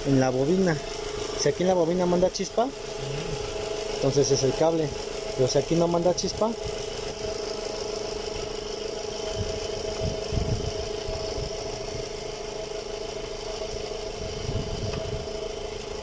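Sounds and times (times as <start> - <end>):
car engine idling unevenly: 0.0 - 16.0.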